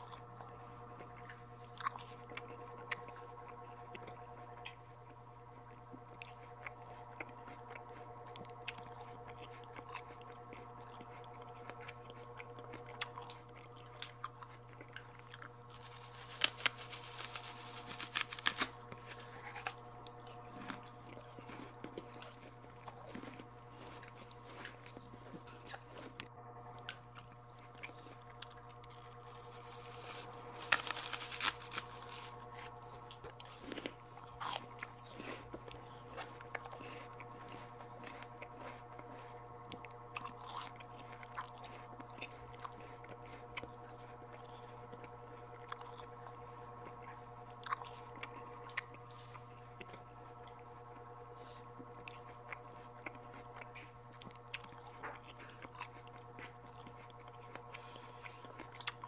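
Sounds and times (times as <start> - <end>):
crunchy biting and chewing fruit: 0.0 - 59.0
steady low hum: 0.0 - 59.0.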